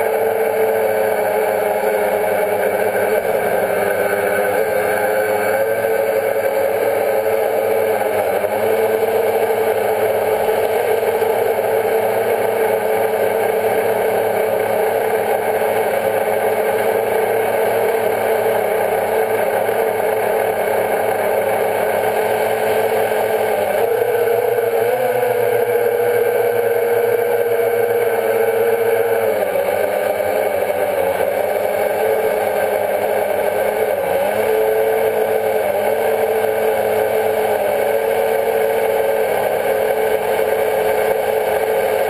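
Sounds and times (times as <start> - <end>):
drone propellers whining: 0.0 - 42.0.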